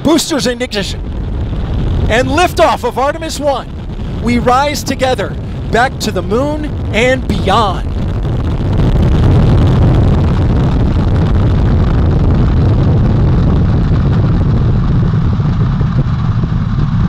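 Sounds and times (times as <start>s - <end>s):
rocket engines deep rumbling: 0.0s - 17.0s.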